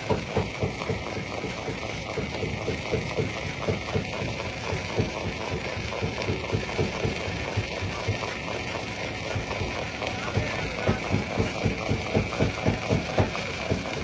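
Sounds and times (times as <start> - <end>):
stone crusher rumble: 0.0 - 14.0.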